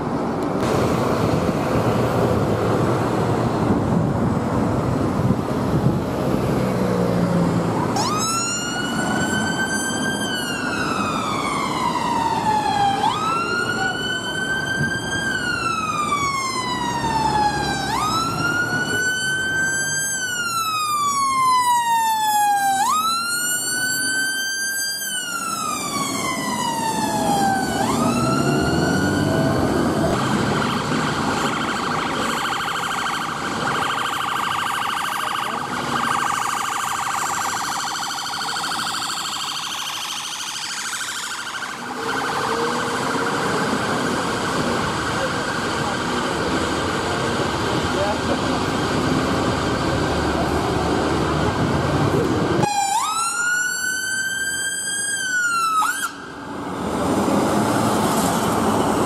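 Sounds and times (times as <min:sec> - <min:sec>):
traffic noise: 0:00.0 - 0:59.0
ambulance siren: 0:06.8 - 0:59.0.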